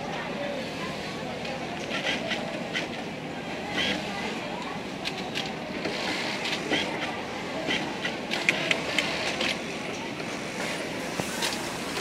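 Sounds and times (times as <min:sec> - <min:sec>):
industrial sewing machines running: 0:00.4 - 0:12.0.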